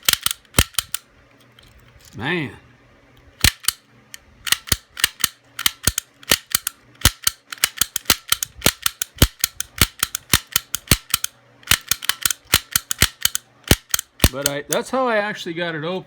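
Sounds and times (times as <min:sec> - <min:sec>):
pick gun metallic clicks: 0:00.0 - 0:01.7, 0:03.4 - 0:14.8.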